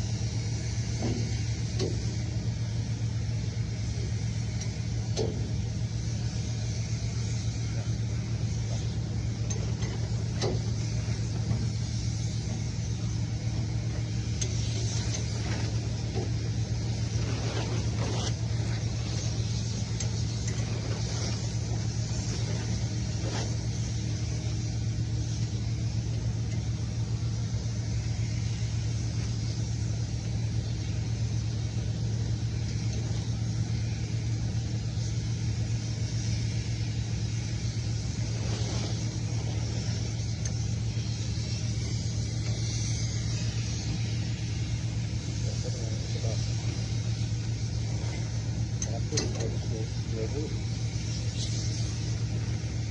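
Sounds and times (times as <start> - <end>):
machinery droning: 0.0 - 52.9.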